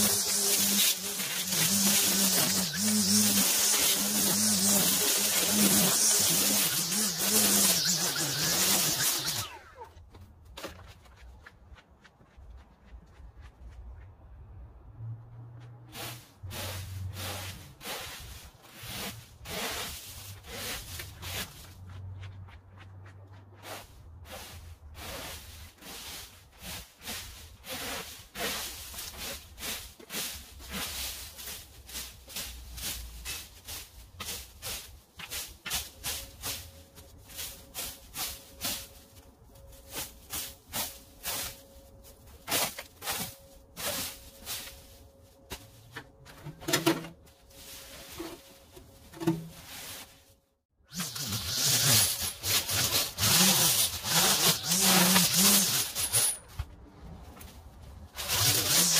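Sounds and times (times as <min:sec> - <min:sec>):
rake scraping dry grass: 0:00.0 - 0:09.9, 0:15.9 - 0:21.8, 0:23.6 - 0:50.3, 0:50.9 - 0:56.5, 0:58.0 - 0:58.9.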